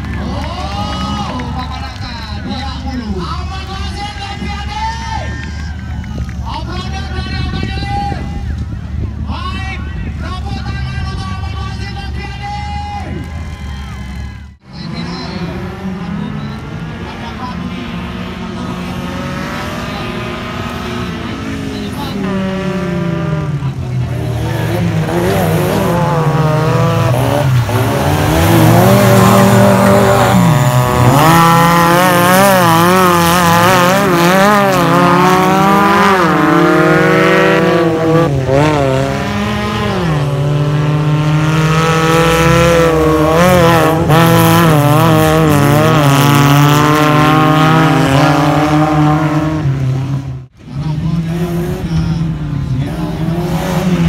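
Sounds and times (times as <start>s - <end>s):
race vehicle engines revving: 0.0s - 54.0s.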